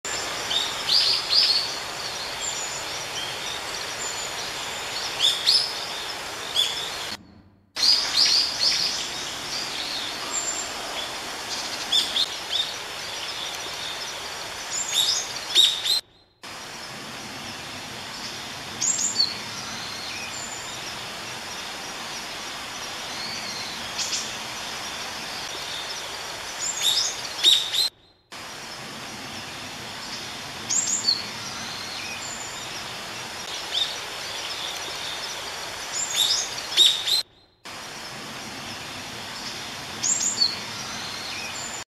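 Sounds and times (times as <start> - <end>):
mountain stream rushing: 0.1 - 7.2, 7.8 - 41.8
songbirds chirping: 0.1 - 41.8.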